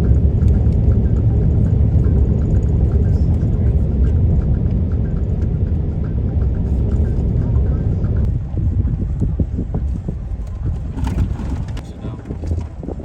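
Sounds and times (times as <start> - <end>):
vehicle engine and tyre noise: 0.0 - 13.0.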